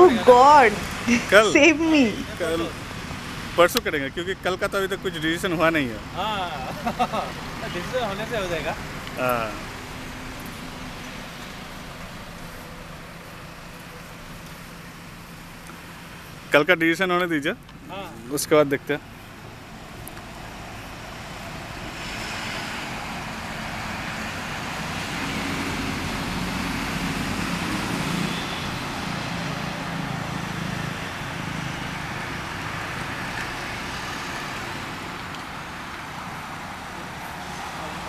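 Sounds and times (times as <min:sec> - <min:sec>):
road noise: 0:00.0 - 0:38.0
vehicle engine hum: 0:00.0 - 0:38.0.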